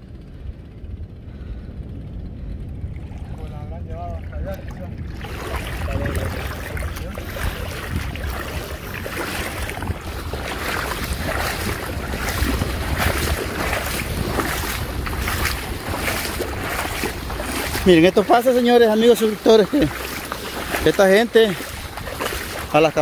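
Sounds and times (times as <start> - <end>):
wind rumble on microphone: 0.0 - 23.0
footsteps splashing in water: 4.2 - 23.0.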